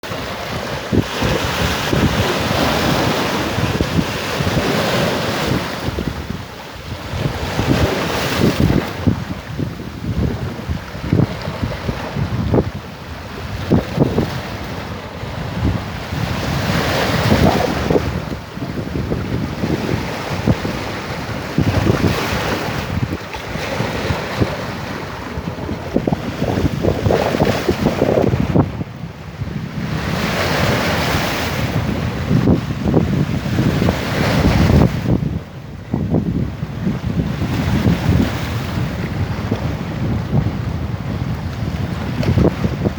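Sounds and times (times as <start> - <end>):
sea surf breaking on shore: 0.0 - 42.9
wind buffeting microphone: 0.0 - 42.9.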